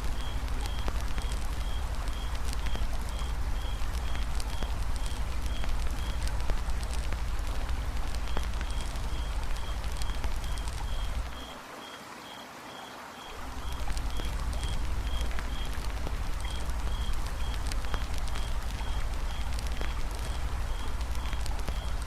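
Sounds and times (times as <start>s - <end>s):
campfire crackling and popping: 0.0s - 11.6s, 13.4s - 22.0s.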